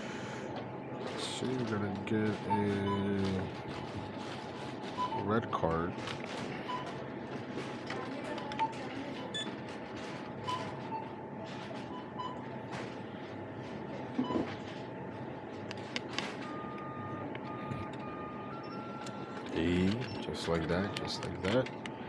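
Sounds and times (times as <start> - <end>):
steady store hum: 0.0 - 22.0.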